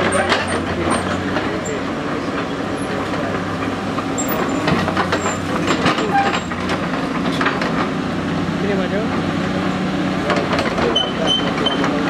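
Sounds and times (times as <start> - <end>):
metallic clanks of steel tracks: 0.0 - 9.6, 10.2 - 12.0
excavator diesel engine running: 0.0 - 12.0.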